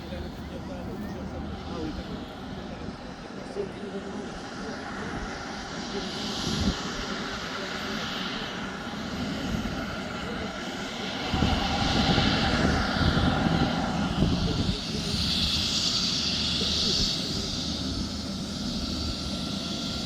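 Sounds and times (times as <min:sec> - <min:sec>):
helicopter engine whine: 0:00.0 - 0:20.0.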